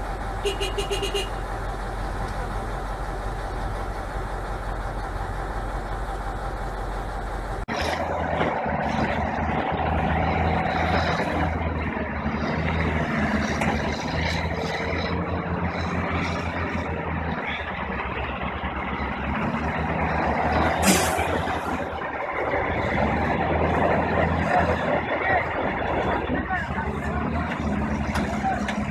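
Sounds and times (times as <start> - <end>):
heavy truck engine running: 0.0 - 28.9.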